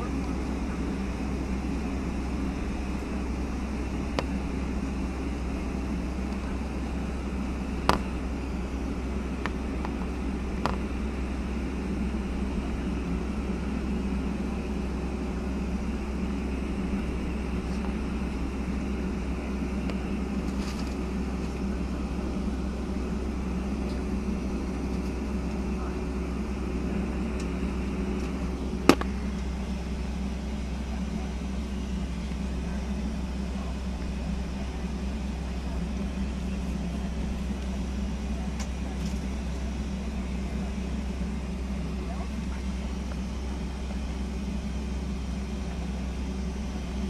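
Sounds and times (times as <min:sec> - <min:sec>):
cabin air hum: 0:00.0 - 0:47.0
jet engines at low thrust: 0:00.0 - 0:47.0.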